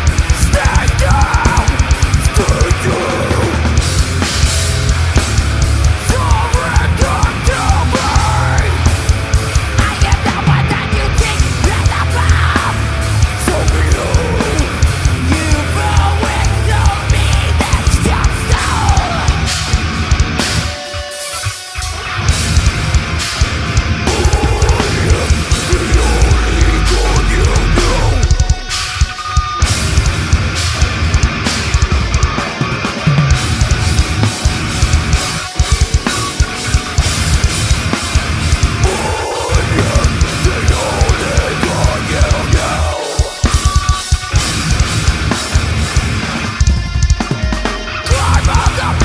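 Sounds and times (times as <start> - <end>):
fast bass drum strokes: 0.0 - 20.8, 22.2 - 49.0
heavy metal band playing live: 0.0 - 49.0.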